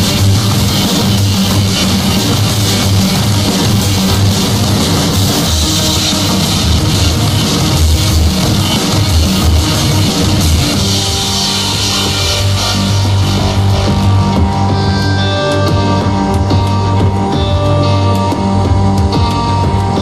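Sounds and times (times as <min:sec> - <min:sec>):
drum kit: 0:00.0 - 0:20.0
loud rock music: 0:00.0 - 0:20.0.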